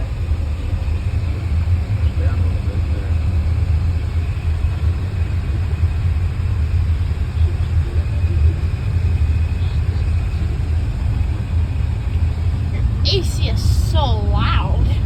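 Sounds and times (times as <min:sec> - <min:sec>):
air-conditioning fan: 0:00.0 - 0:15.0
road and engine noise: 0:00.0 - 0:15.0.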